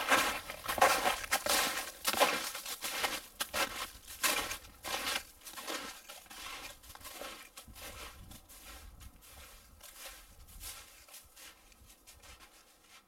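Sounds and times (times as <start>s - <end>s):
footsteps crunching in snow: 0.0s - 13.0s.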